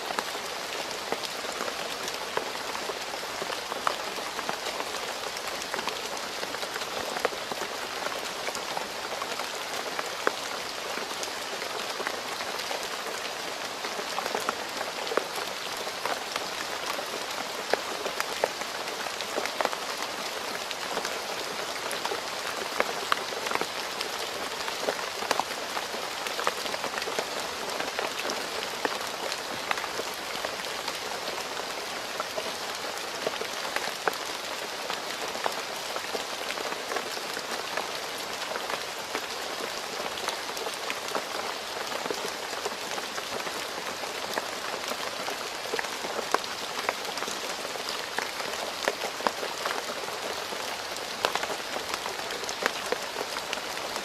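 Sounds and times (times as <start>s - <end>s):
rain on a road: 0.0s - 54.0s.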